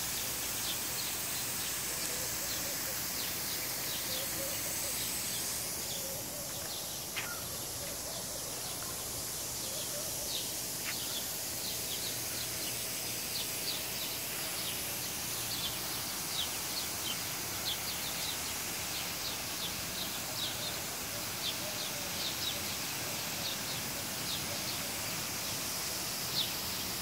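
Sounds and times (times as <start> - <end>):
steady outdoor hiss: 0.0 - 27.0
small birds chirping: 0.1 - 22.8.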